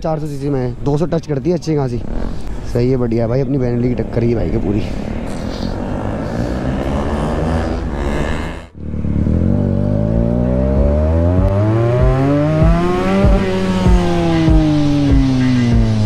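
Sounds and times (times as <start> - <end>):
motorcycle engine accelerating: 1.8 - 16.0.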